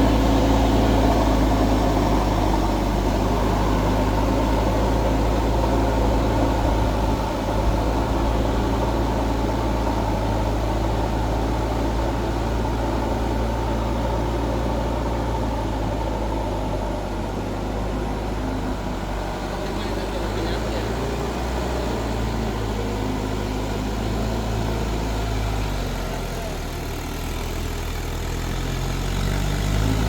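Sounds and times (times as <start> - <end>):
tractor diesel engine droning: 0.0 - 30.0.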